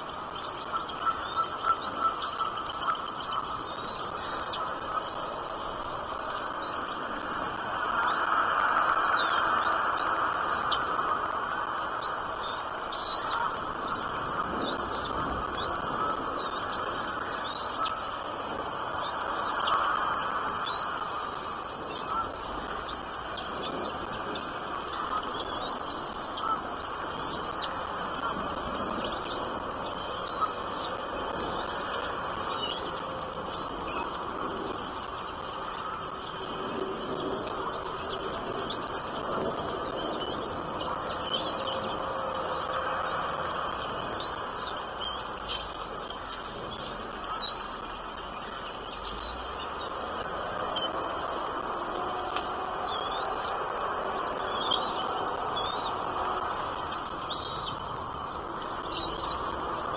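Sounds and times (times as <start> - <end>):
steady background hiss: 0.0 - 59.9
small birds chirping: 0.1 - 59.9.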